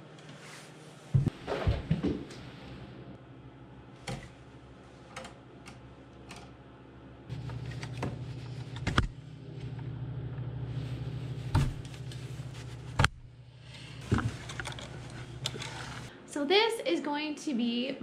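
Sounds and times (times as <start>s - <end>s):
steady low hum: 0.8s - 16.4s.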